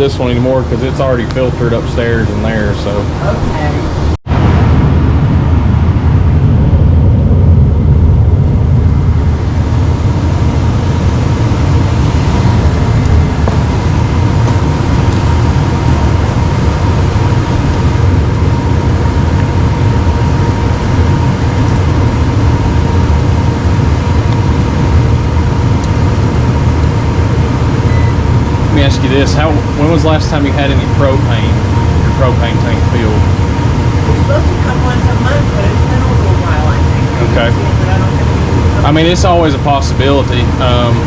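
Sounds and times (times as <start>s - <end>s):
faint steady whine: 0.0s - 41.0s
furnace blower rumbling: 0.0s - 41.0s.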